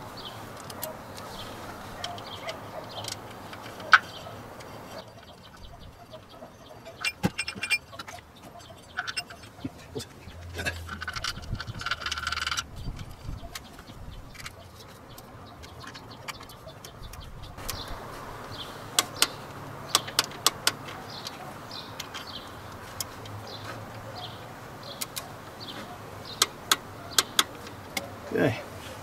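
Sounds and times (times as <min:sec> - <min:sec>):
bird chirps: 0:00.1 - 0:22.7, 0:23.4 - 0:28.2.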